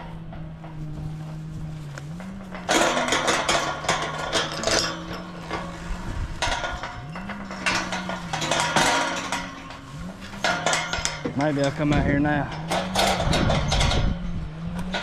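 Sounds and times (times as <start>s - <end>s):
metal gate rattling and clanking: 0.0s - 15.0s
steady low hum: 0.0s - 15.0s.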